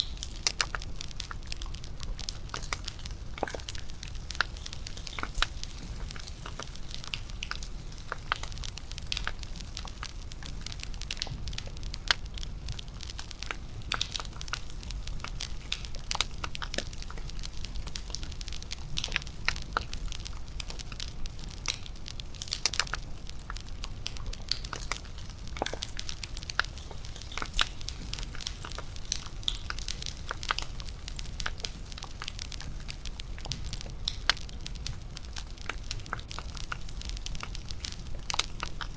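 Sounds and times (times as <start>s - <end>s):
bonfire crackling: 0.0s - 38.9s.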